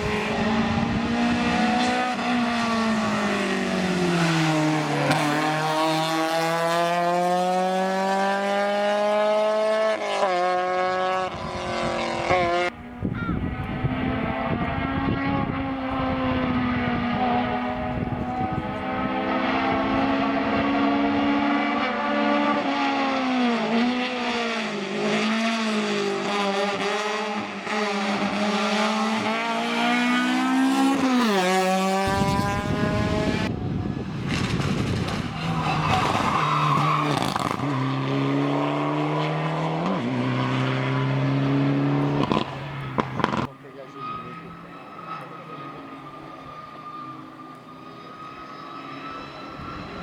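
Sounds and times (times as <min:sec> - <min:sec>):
race car engine shifting gears: 0:00.0 - 0:21.9, 0:23.6 - 0:43.6
race car engine at high revs: 0:00.0 - 0:50.0.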